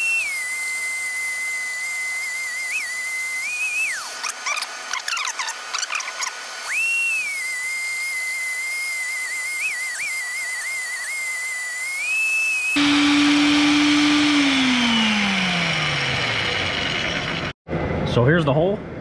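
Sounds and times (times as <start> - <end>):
magnetic drill boring steel: 0.0 - 17.6.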